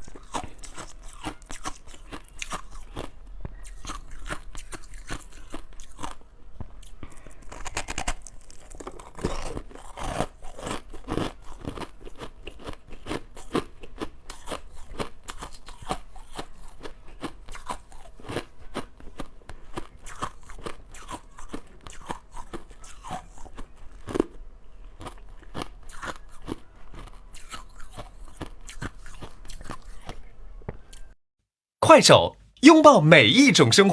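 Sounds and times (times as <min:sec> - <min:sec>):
crushed ice being chewed: 0:00.0 - 0:30.3.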